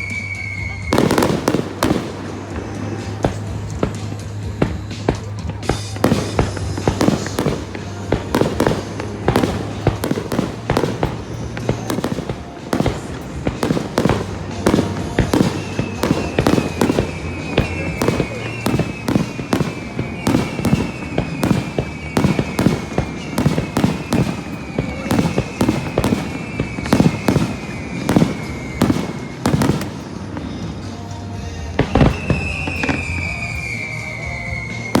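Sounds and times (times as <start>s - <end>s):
falling firework whistles: 0.0s - 35.0s
fireworks bangs: 0.0s - 35.0s
stadium music: 0.0s - 35.0s.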